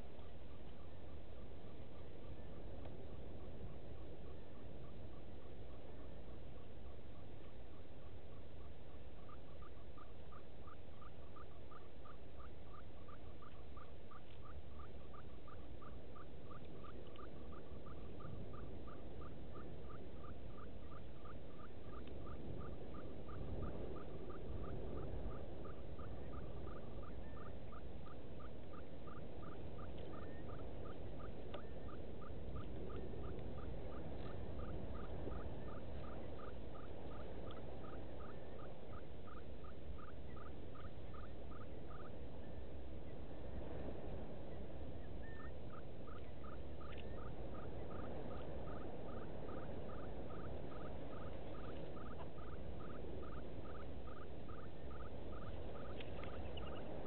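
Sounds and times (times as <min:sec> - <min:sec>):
small animal calling: 0:00.0 - 0:43.2, 0:45.0 - 0:57.0
low outdoor rumble: 0:00.0 - 0:57.0.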